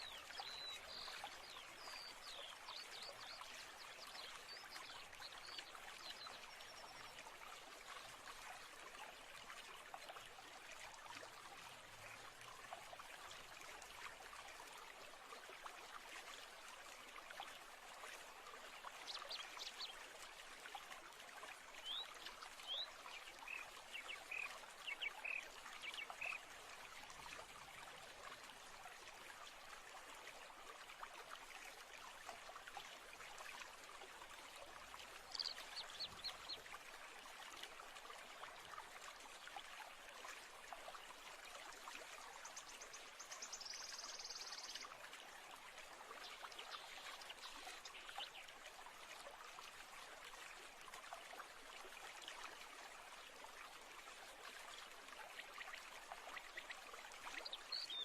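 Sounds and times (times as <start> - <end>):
stream trickling: 0.0 - 58.0.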